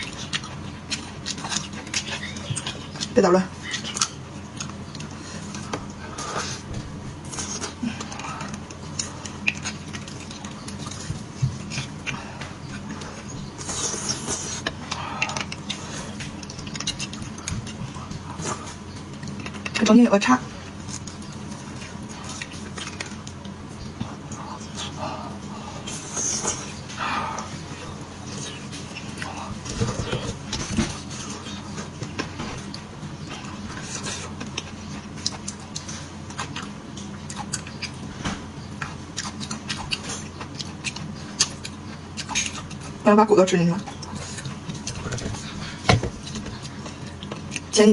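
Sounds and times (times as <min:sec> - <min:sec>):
wet mouth sounds eating: 0:00.0 - 0:19.9, 0:20.6 - 0:43.0.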